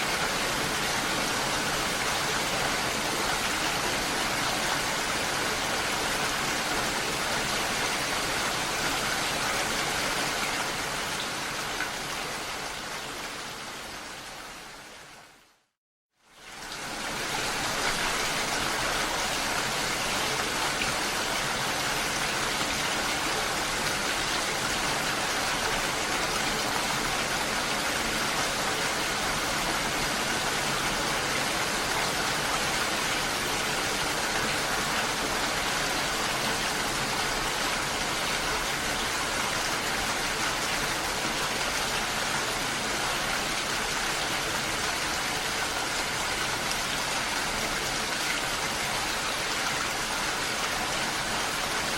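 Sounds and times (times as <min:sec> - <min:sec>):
water rushing: 0:00.0 - 0:14.7, 0:16.4 - 0:51.9.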